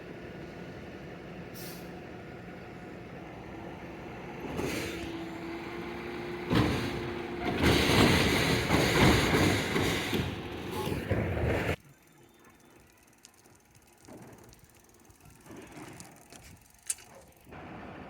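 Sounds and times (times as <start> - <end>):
garbage truck idling: 0.0 - 15.9.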